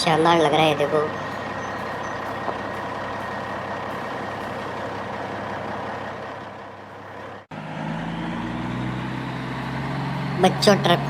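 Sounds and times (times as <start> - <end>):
low engine hum: 0.0 - 11.0
truck engine running: 0.0 - 11.0.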